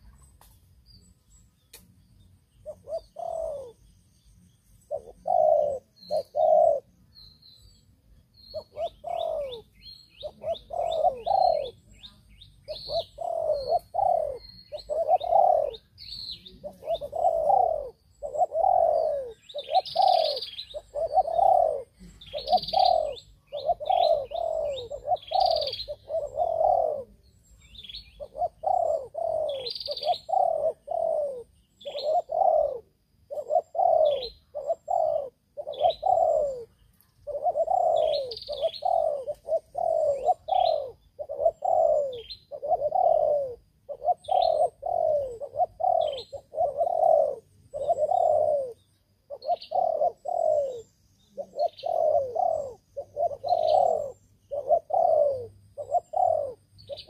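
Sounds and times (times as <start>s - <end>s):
small birds chirping: 0.0s - 57.0s
doves cooing: 2.6s - 3.8s, 4.9s - 7.1s, 8.5s - 57.0s.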